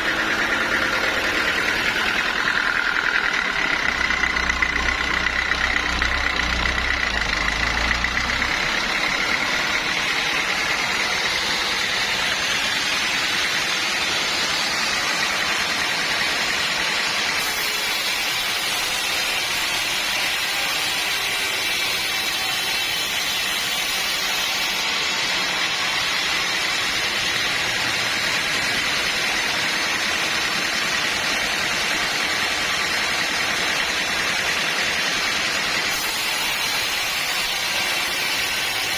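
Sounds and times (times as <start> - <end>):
sawmill machinery hiss: 0.0 - 38.9.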